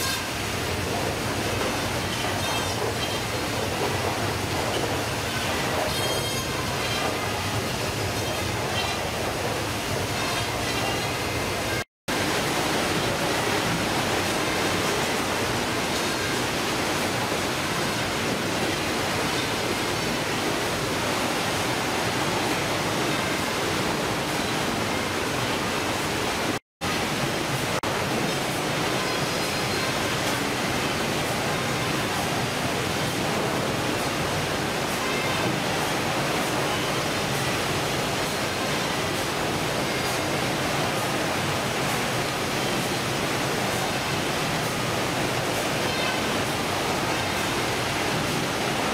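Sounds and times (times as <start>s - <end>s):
running water: 0.0s - 48.9s.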